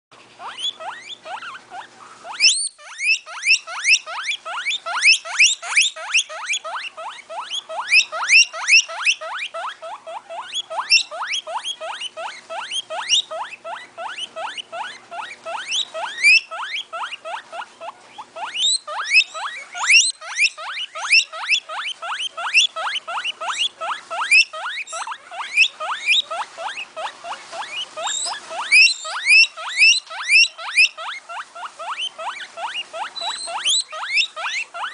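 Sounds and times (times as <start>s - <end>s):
guinea pig squeaking: 0.2s - 34.9s.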